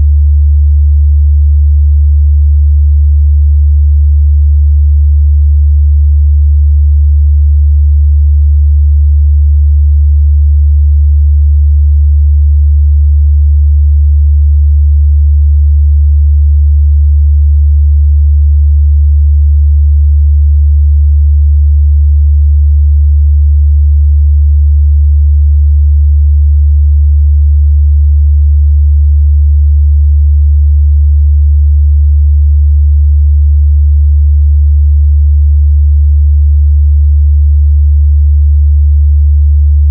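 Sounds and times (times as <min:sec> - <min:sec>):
low sine test tone: 0:00.0 - 0:39.9.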